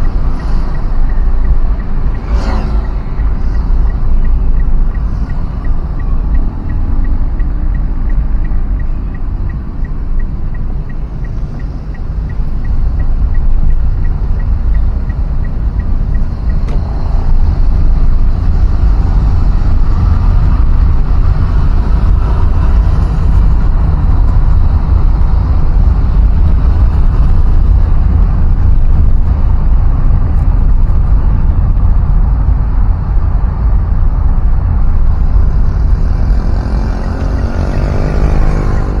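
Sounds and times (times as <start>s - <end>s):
faint regular ticking: 0.0s - 39.0s
vehicle rumbling on road: 0.0s - 39.0s.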